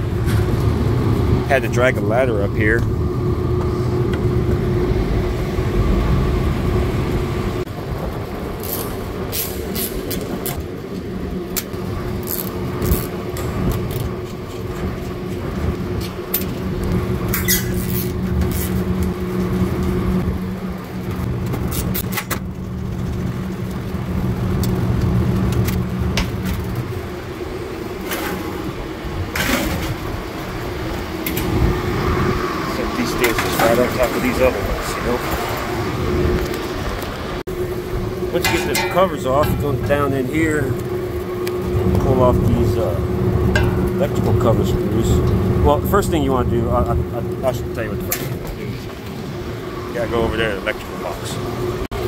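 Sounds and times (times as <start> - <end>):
steady mechanical hum: 0.0 - 52.0.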